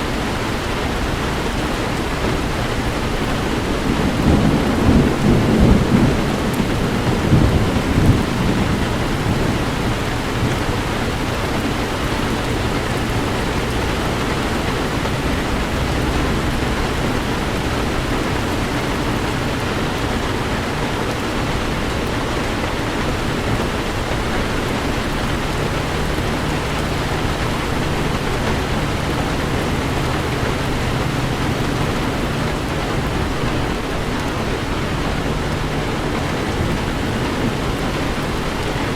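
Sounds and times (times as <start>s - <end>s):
heavy rain pouring: 0.0s - 38.9s
low rumble of thunder: 0.1s - 38.9s.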